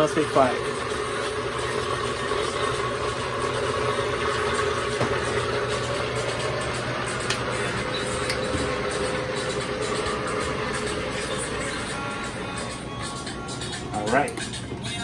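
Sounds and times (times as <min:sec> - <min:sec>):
blender motor running: 0:00.0 - 0:14.6.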